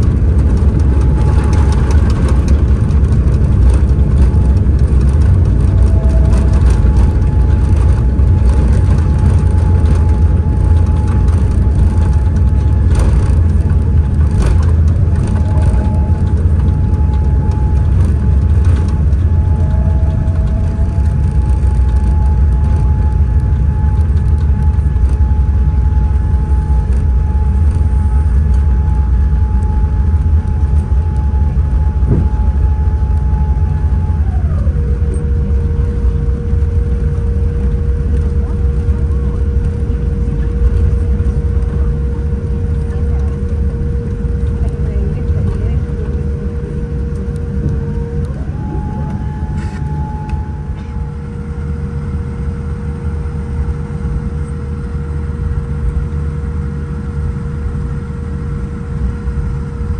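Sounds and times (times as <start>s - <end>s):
aircraft rumble: 0.0s - 59.9s
engine whine: 0.0s - 59.9s.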